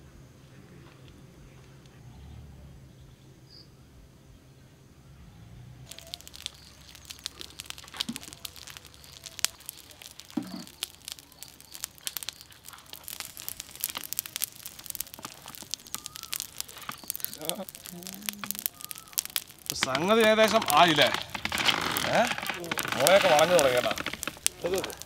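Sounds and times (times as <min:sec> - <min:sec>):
fire and meat crackling: 0:04.9 - 0:25.0.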